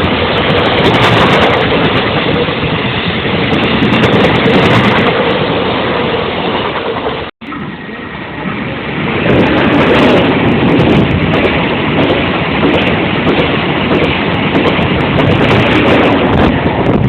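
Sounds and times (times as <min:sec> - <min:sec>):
train passing on rails: 0:00.0 - 0:17.0.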